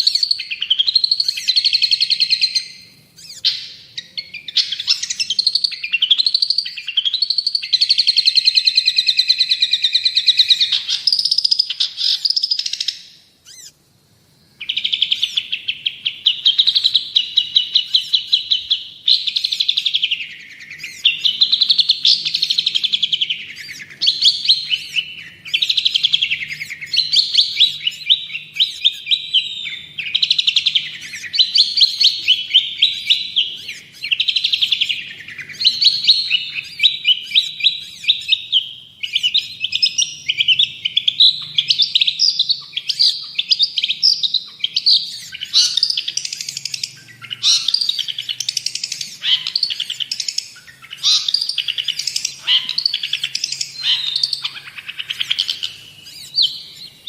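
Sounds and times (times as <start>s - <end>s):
shrike chattering song: 0.0s - 13.8s, 14.6s - 57.0s.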